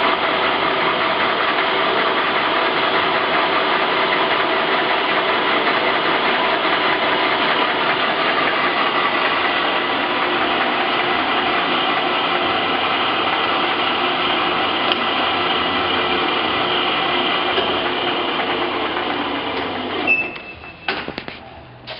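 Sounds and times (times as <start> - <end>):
lathe gear whine: 0.0 - 21.2.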